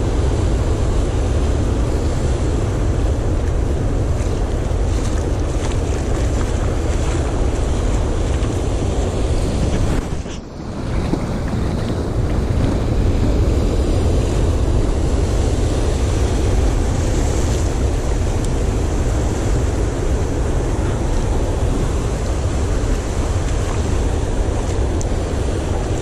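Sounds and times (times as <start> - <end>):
steady low rumble: 0.0 - 26.0
wind buffeting microphone: 0.0 - 26.0
surf breaking over rocks: 0.1 - 26.0.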